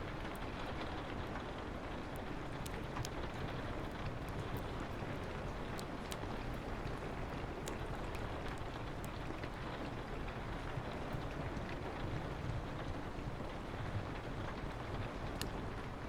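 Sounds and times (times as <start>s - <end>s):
rain on a window: 0.0s - 16.0s.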